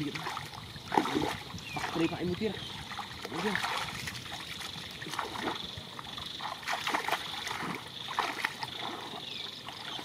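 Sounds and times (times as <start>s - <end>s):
muddy water sloshing and splashing: 0.0s - 10.0s.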